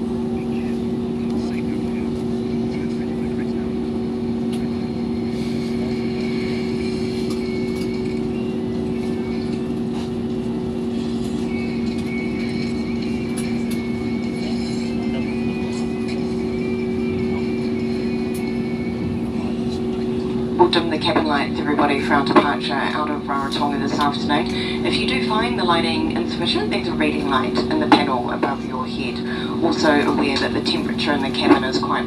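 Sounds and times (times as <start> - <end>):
airliner cabin hum: 0.0 - 32.0.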